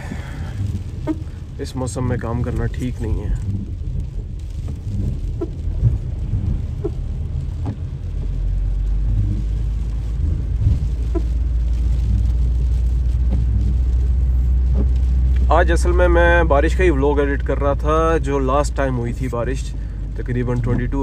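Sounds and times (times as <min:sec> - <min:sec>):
car engine and road noise: 0:00.0 - 0:21.0
heavy rain: 0:00.0 - 0:21.0.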